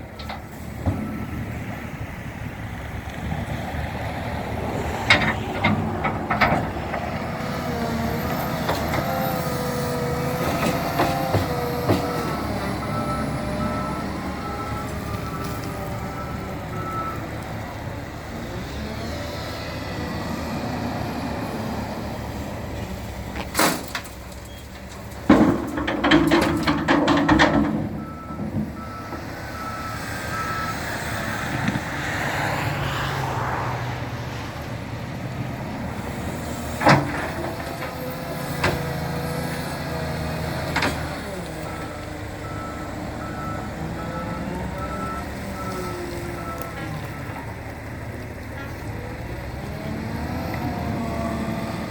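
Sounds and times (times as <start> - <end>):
loader engine running: 0.0 - 51.9.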